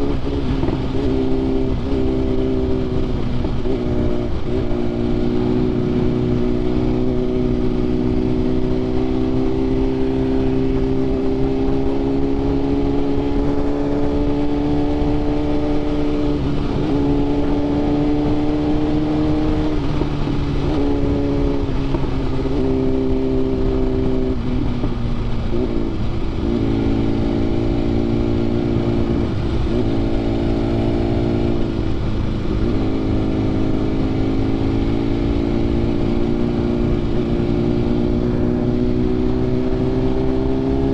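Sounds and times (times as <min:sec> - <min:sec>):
sport motorcycle engine revving: 0:00.0 - 0:40.9.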